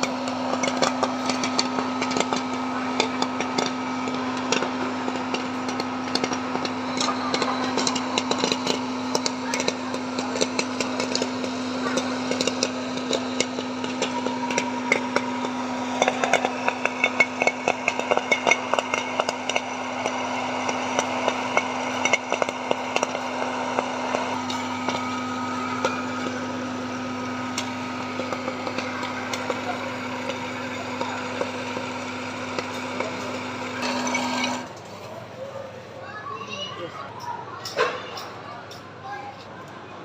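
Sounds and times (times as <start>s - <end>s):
popcorn kernels popping: 0.0s - 34.8s
popcorn machine humming: 0.0s - 40.0s.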